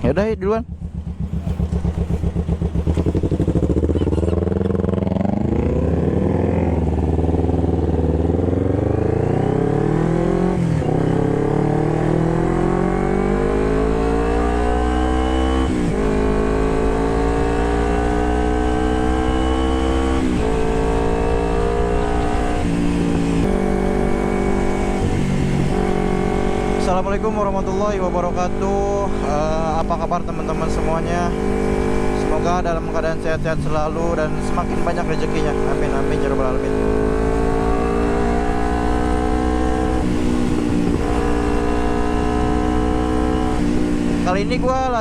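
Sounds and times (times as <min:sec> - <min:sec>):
motorcycle accelerating through gears: 0:00.6 - 0:45.0.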